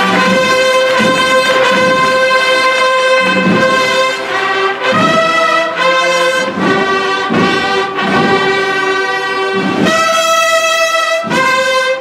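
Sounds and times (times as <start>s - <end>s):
brass band playing slow march: 0.0s - 12.0s.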